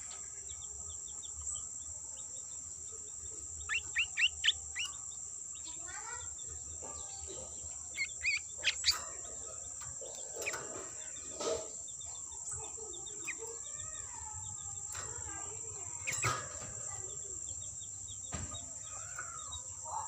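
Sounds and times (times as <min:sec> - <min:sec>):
bird chirping: 0:00.0 - 0:20.0
high insect drone: 0:00.0 - 0:20.0.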